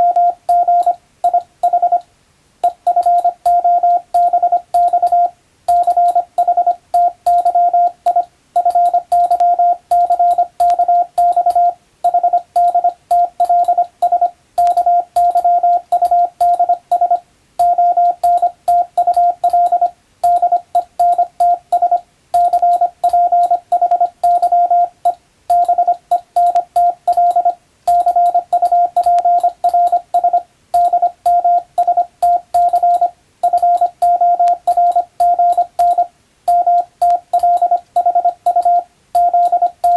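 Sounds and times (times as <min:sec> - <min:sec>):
morse code tone: 0:00.0 - 0:02.0, 0:02.6 - 0:39.9.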